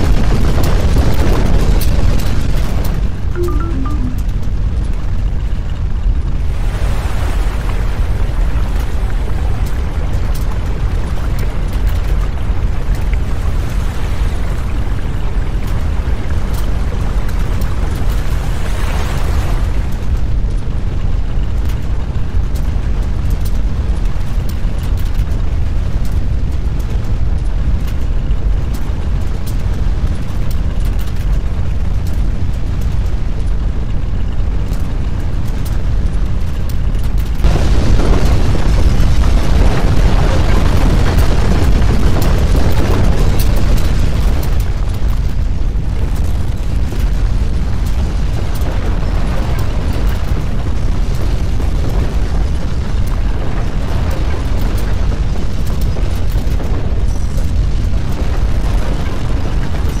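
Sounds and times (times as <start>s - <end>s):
deep earthquake rumble: 0.0s - 3.6s, 4.3s - 60.0s.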